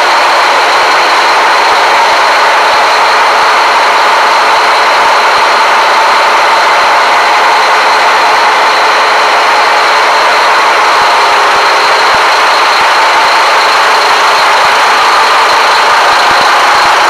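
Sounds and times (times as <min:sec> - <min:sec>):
diesel engines running: 0:00.0 - 0:17.0
high whine: 0:00.0 - 0:17.0.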